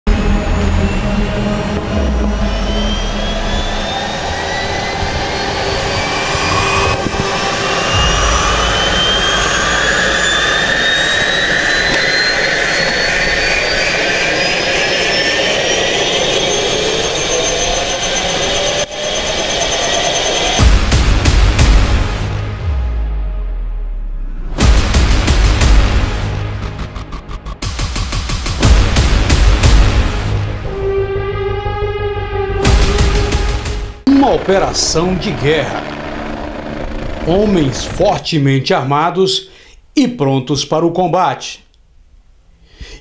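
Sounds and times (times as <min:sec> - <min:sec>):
helicopter turbine whine rising: 0:00.1 - 0:22.8, 0:24.1 - 0:39.1.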